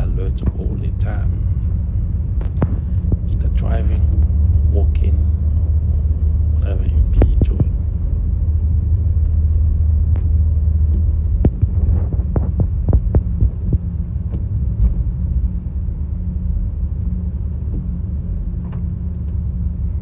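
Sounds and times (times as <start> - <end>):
road and engine rumble: 0.0 - 20.0.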